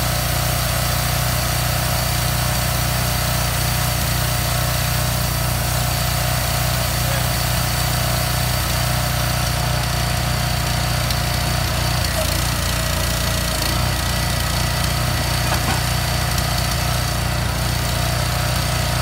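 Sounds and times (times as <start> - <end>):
truck diesel engine running: 2.4 - 19.0.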